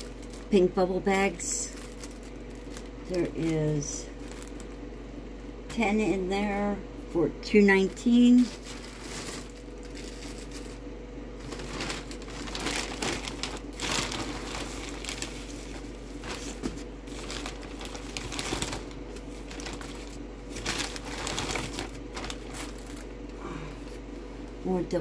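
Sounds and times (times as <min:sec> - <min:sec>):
plastic packaging crinkling: 0:00.0 - 0:04.9, 0:08.0 - 0:24.1.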